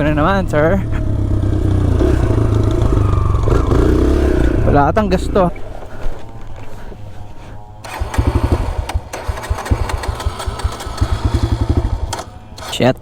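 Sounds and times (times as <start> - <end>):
motorbike engine cranking and sputtering: 0.0 - 5.4, 7.8 - 13.0.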